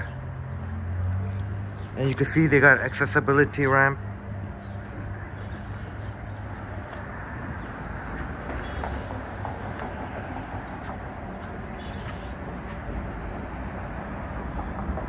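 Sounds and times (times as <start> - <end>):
low rumble of passing vehicles: 0.0 - 15.0.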